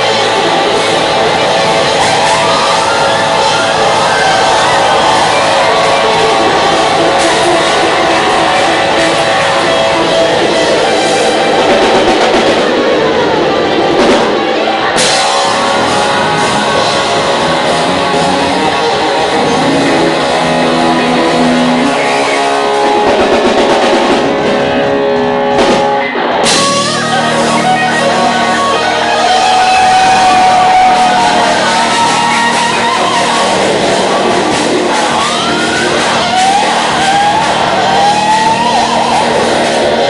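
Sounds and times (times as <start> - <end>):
high sliding guitar notes: 0.0 - 40.0
live rock band playing: 0.0 - 40.0.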